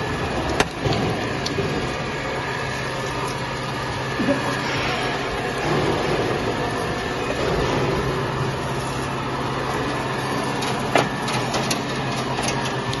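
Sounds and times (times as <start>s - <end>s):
vibrating screen humming and rattling: 0.0s - 13.0s.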